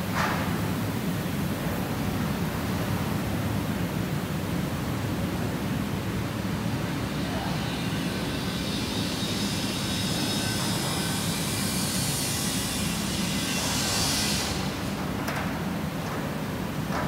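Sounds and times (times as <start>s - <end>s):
molding machines humming and hissing: 0.0s - 17.0s.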